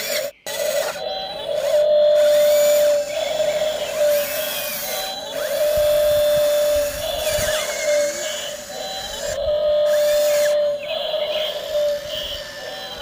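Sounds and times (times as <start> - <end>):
toy excavator electric motors whining: 0.0 - 13.0.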